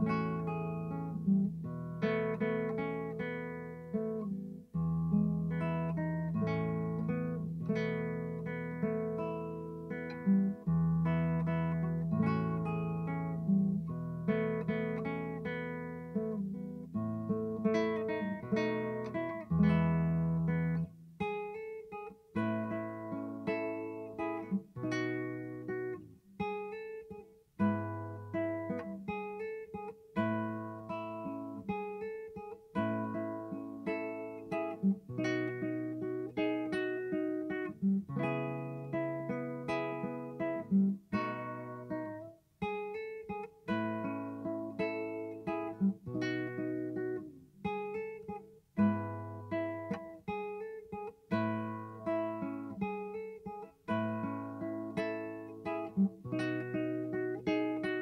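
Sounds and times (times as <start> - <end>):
fingerpicked nylon-string guitar: 0.0 - 58.0.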